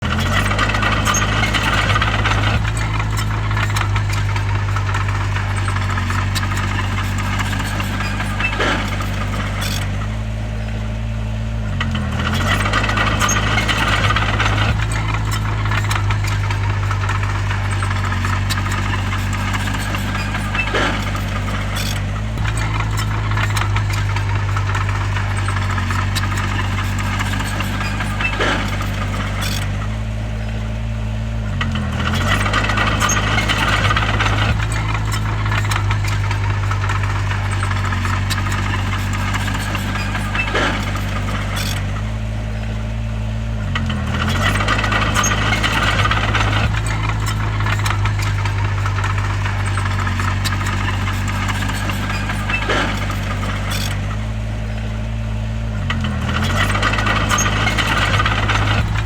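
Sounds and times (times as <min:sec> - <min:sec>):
bulldozer diesel engine running: 0:00.0 - 0:59.0
knocks and rattling: 0:00.0 - 0:59.0.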